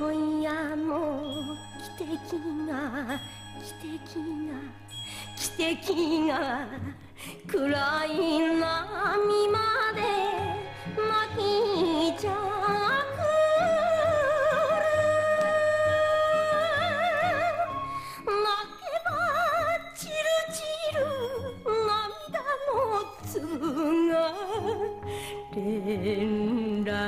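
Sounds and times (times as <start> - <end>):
instrumental backing: 0.0 - 27.0
woman singing with vibrato: 0.0 - 27.0.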